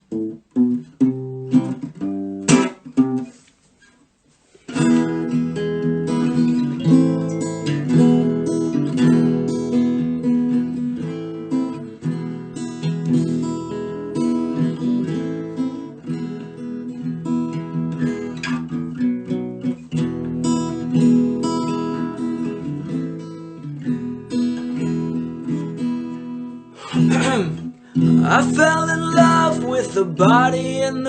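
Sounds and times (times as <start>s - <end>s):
acoustic guitar strumming: 0.0s - 3.5s, 4.7s - 31.0s.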